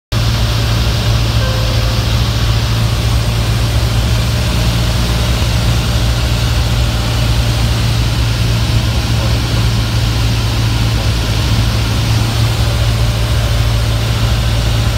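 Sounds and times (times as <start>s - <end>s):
airplane engine and propeller drone: 0.2s - 14.9s.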